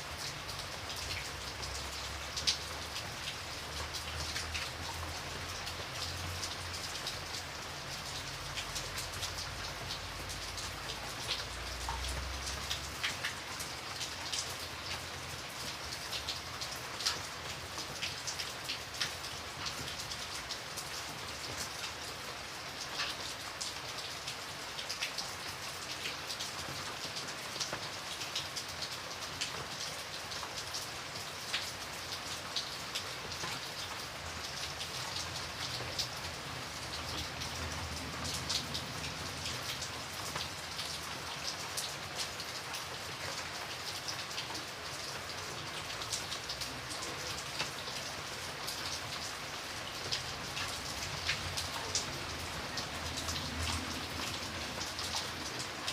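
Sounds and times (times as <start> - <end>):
raindrops pattering: 0.0 - 55.9
steady rain: 0.0 - 55.9.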